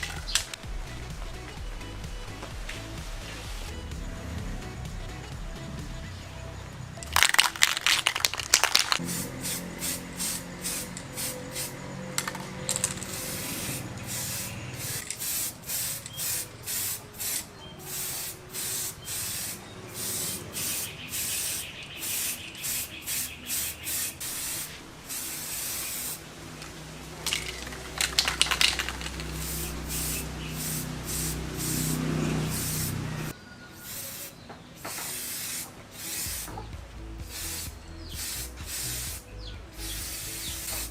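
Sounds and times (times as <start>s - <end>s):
spray paint can hissing: 0.0s - 0.6s, 1.9s - 6.0s, 7.0s - 26.3s, 27.2s - 40.9s.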